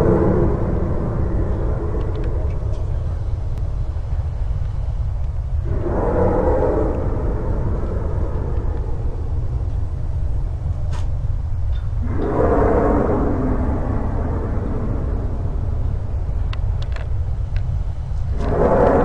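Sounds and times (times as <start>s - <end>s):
low rumble: 0.0s - 19.0s
rushing noise: 0.0s - 19.0s.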